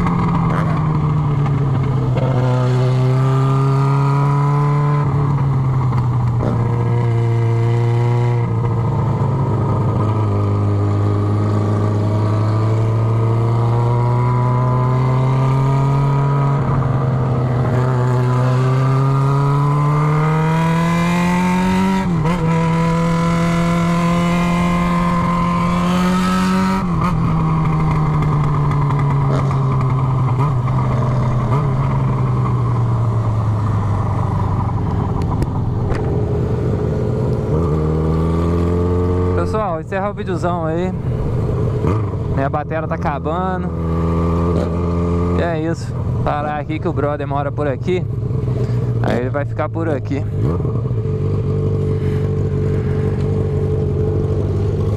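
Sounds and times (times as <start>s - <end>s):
motorcycle engine riding: 0.0s - 54.9s.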